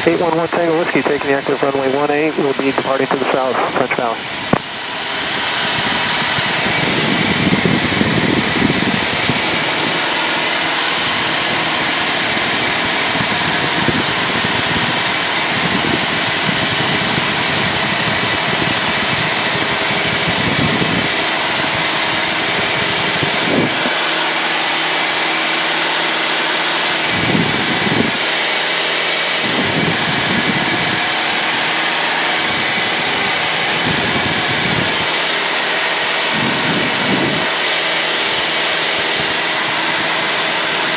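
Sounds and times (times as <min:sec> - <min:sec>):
aircraft engine and propeller droning: 0:00.0 - 0:40.9.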